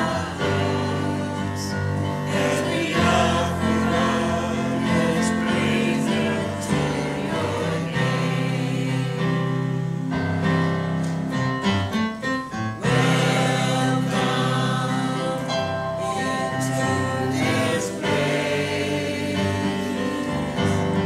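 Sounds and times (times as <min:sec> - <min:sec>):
church choir singing a hymn: 0:00.0 - 0:11.2, 0:12.7 - 0:21.0.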